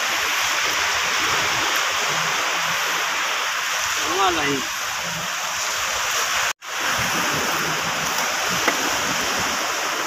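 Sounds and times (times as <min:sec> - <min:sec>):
steady rushing hiss: 0:00.0 - 0:10.0.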